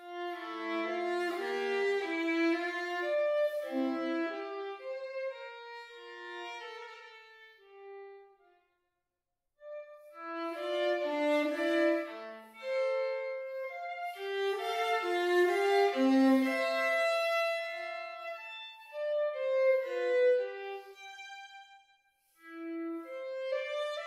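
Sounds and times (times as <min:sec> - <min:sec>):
solo violin playing: 0:00.0 - 0:08.4, 0:09.6 - 0:24.0.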